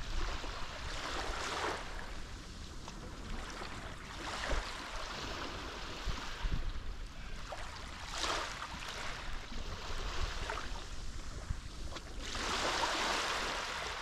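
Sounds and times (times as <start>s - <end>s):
sea waves lapping on shore: 0.0s - 14.0s.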